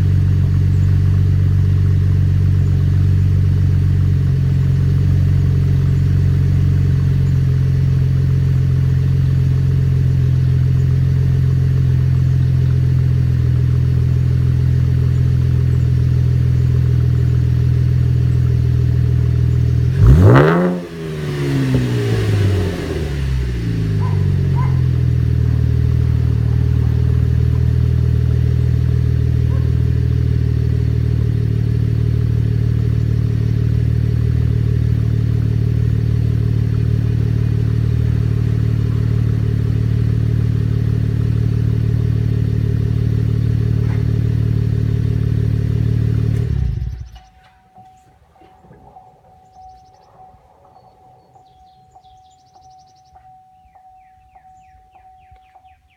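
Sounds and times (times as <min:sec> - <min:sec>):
car engine idling and revving: 0:00.0 - 0:55.8.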